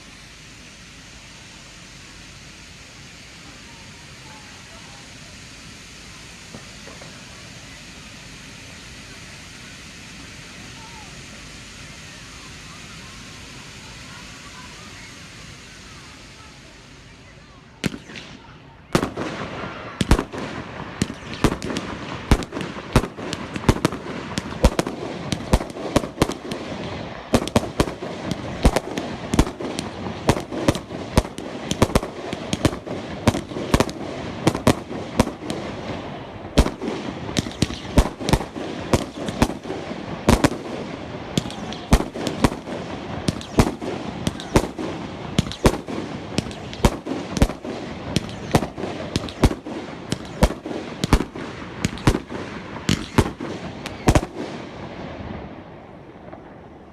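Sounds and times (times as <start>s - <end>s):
fireworks banging: 0.0s - 56.9s
fireworks crackling: 0.0s - 56.9s.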